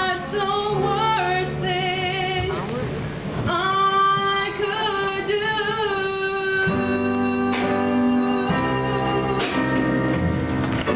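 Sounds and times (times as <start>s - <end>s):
woman singing with vibrato: 0.0s - 2.8s, 3.4s - 10.2s.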